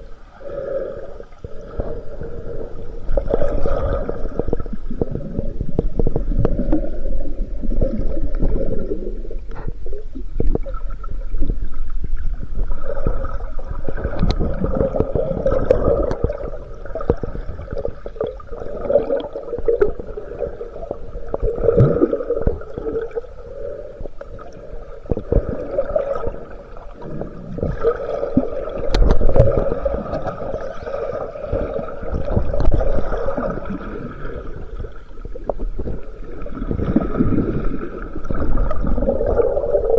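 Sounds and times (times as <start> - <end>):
muffled underwater rumble and sloshing: 0.0 - 39.9.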